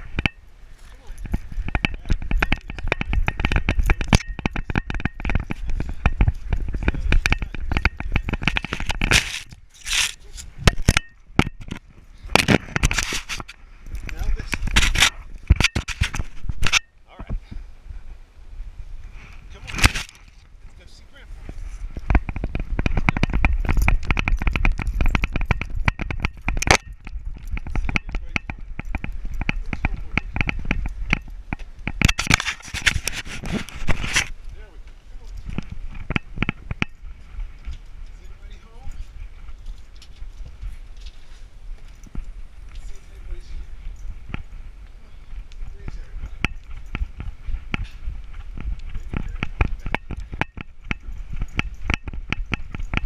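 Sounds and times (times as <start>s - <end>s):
chain and tags rattling: 0.4s - 16.8s, 19.5s - 44.6s, 45.2s - 53.0s.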